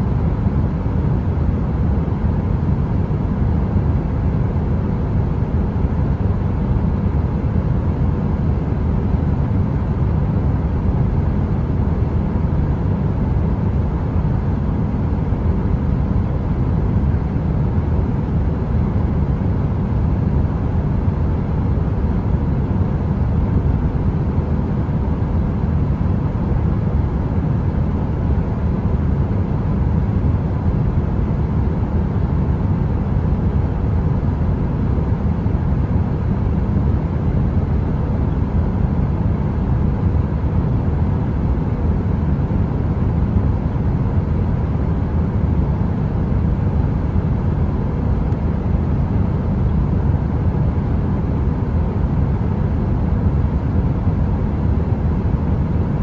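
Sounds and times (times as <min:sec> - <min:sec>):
deep heater white noise: 0:00.0 - 0:56.0.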